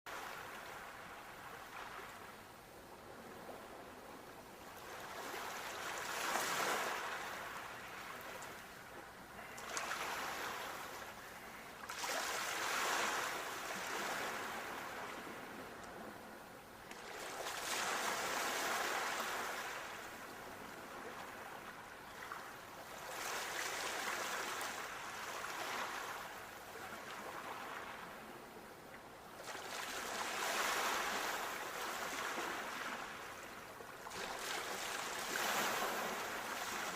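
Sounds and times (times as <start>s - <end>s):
sea waves breaking on beach: 4.6s - 15.8s, 16.9s - 28.2s, 29.4s - 36.9s.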